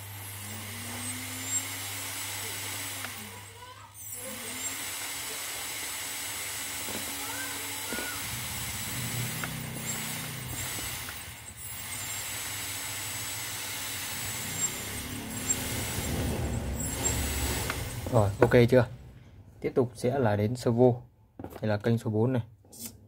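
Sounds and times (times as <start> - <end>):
electric motor humming: 0.0 - 19.2.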